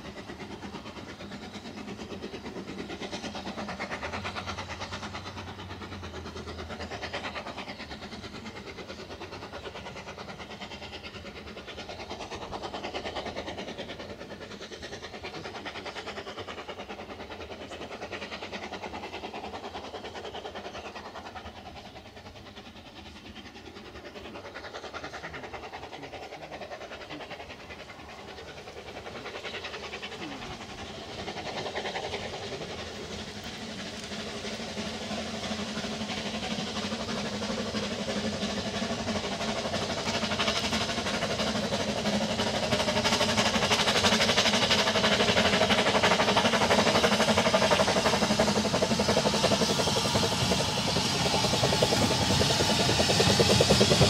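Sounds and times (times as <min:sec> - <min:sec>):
steam train running: 0:00.0 - 0:54.0.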